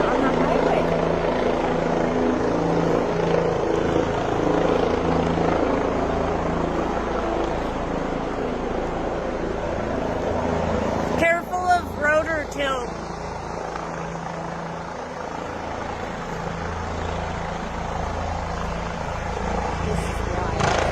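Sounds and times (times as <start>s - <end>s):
helicopter engine and rotor drone: 0.0s - 20.9s.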